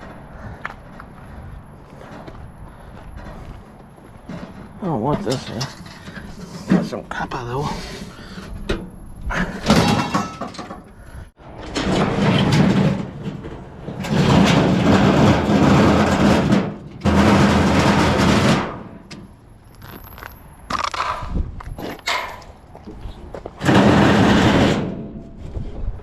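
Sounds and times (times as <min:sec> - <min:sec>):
scrap scraping and rattling: 0:00.0 - 0:26.0.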